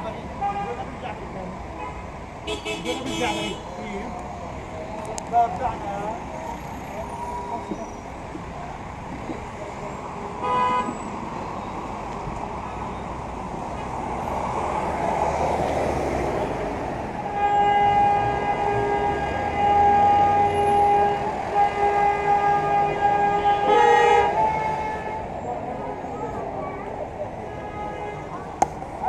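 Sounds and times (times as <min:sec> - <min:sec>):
traffic noise: 0:00.0 - 0:29.0.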